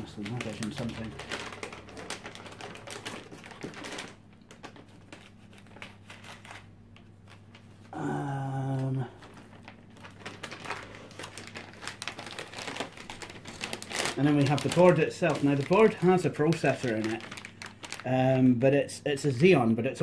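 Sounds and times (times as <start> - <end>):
plastic packaging crinkling: 0.0 - 8.0, 8.7 - 19.6
steady pitched hum: 0.0 - 20.0.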